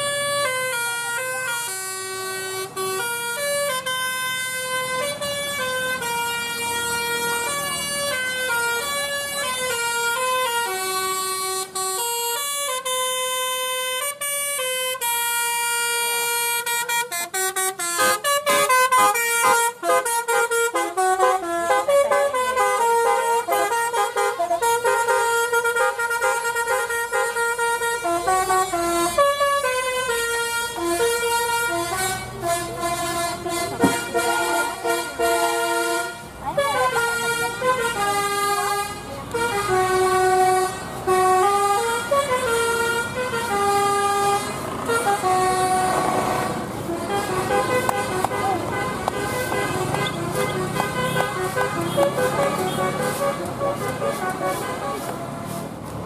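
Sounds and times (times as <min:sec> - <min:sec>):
bus horn playing a tune: 0:00.0 - 0:55.8.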